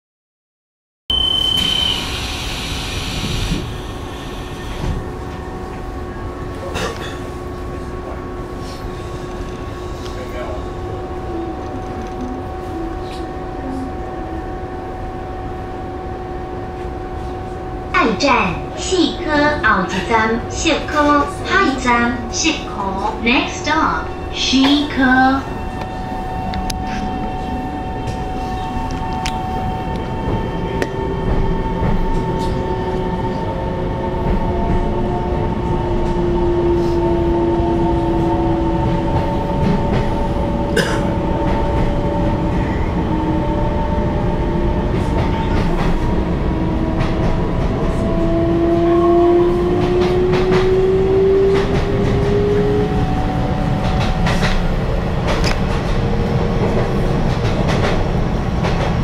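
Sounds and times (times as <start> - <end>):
train running rumble: 2.0 - 59.0.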